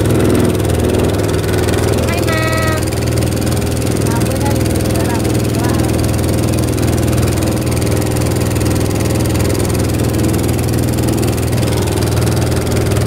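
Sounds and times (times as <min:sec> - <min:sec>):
boat engine humming: 0:00.0 - 0:13.0
rush of wind and water: 0:00.0 - 0:13.0.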